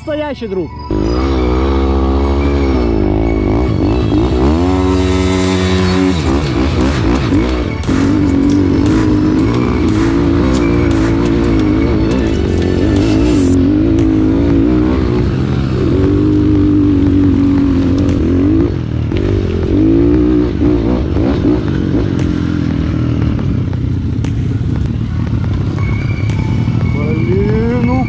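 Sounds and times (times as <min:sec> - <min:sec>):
pit bike engine revving: 0:00.9 - 0:28.0.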